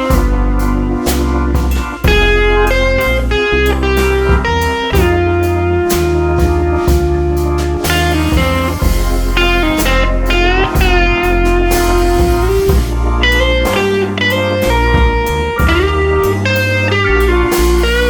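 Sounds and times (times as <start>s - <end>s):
bass and drums: 0.0s - 18.0s
blues electric guitar: 0.0s - 18.0s.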